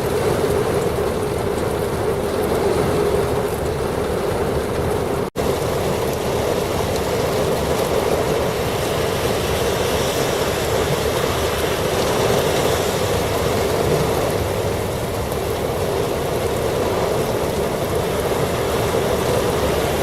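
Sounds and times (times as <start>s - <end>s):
gusty wind: 0.0s - 20.0s
heavy rain pouring: 0.0s - 20.0s.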